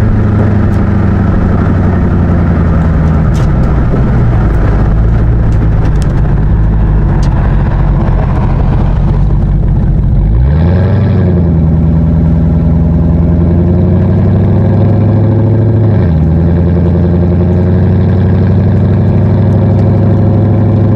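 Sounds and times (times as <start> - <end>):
car exhaust rumbling: 0.0 - 20.9.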